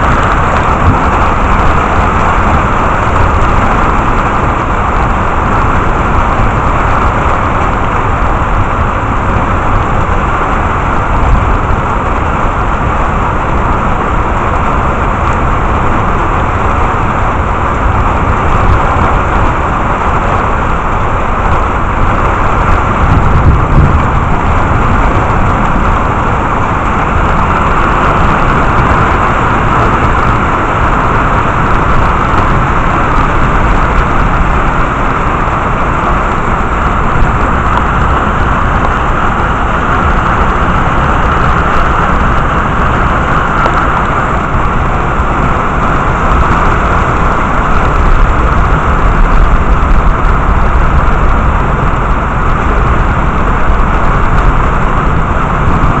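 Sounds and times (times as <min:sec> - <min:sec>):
heavy rain hiss: 0:00.0 - 0:56.0
low thunder rumble: 0:00.0 - 0:56.0.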